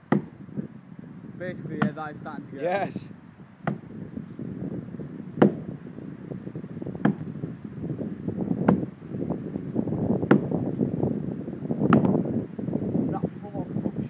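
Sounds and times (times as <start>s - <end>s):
heavy blows into tree wood: 0.0s - 2.4s, 3.3s - 13.1s
rustling wind: 0.0s - 14.0s.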